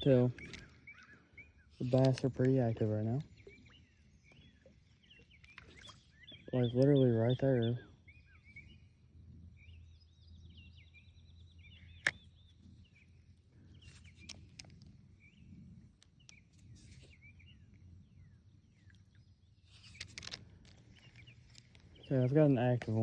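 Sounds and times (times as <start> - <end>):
small birds chirping and trilling: 0.0 - 23.0.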